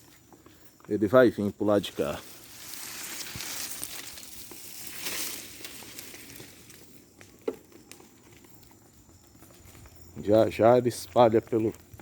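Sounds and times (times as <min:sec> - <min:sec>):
bonfire crackling and popping: 0:00.0 - 0:12.0.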